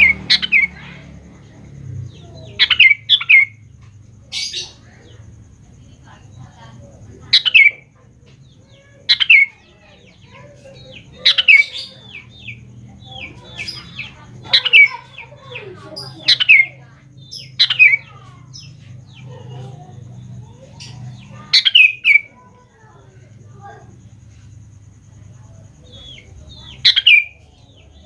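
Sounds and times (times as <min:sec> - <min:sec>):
soft bird chirps: 0:00.0 - 0:28.0.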